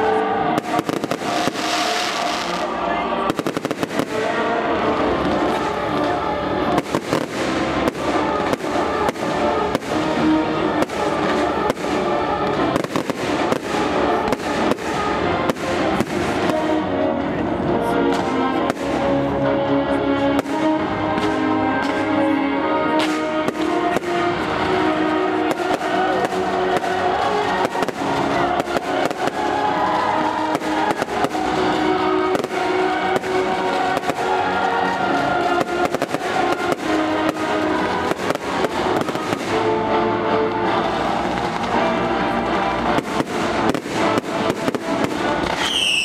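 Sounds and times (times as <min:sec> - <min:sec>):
fireworks bangs and crackles: 0:00.0 - 0:19.4, 0:20.0 - 0:46.0
loud music: 0:00.0 - 0:46.0.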